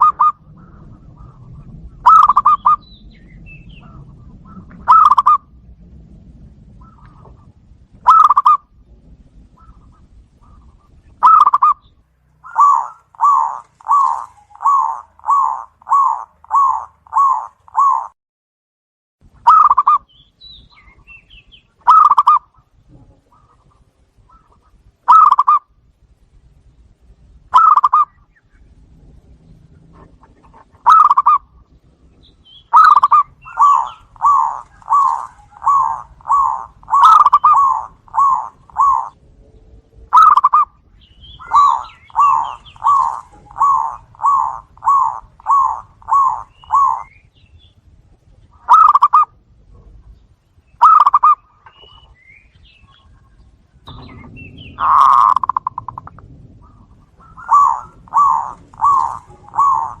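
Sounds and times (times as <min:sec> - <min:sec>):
doves cooing: 0:00.0 - 0:05.6, 0:06.6 - 0:18.2, 0:19.4 - 0:20.1, 0:20.7 - 0:25.8, 0:27.5 - 0:50.2, 0:50.8 - 1:00.0.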